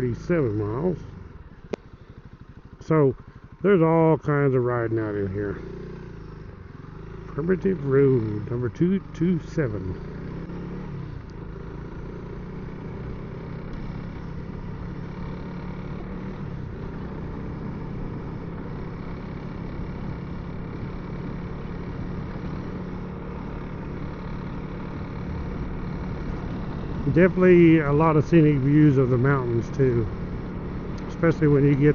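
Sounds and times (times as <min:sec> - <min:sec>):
muffled motorcycle engine running: 0:00.0 - 0:31.9
wind and road noise: 0:00.0 - 0:31.9.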